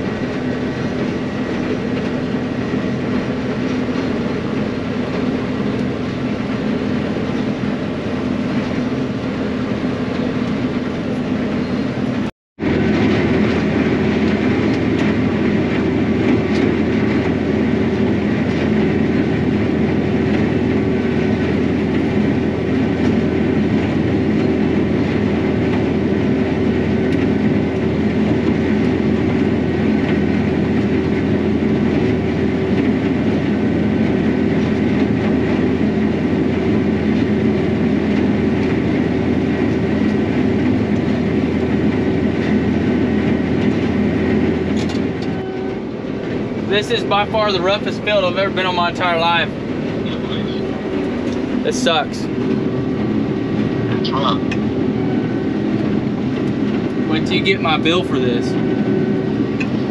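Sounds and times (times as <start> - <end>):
diesel engine hum: 0.0 - 59.9.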